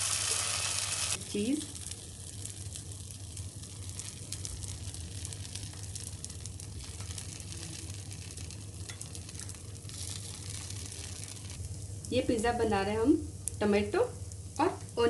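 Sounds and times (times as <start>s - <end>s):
batter sizzling in a pan: 0.0s - 15.0s
steady low hum: 0.0s - 15.0s.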